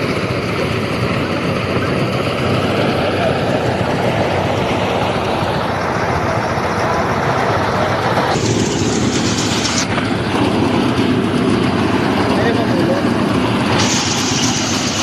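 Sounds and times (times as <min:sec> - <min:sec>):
threshing machine engine running: 0:00.0 - 0:15.0.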